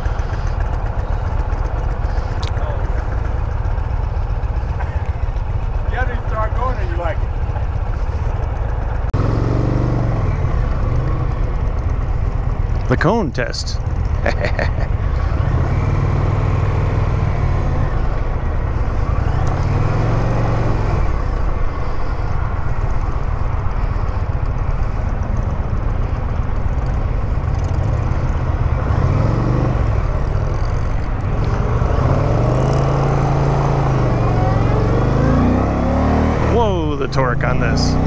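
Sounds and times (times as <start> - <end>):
motorcycle engine revving: 0.0 - 13.2, 13.8 - 38.0.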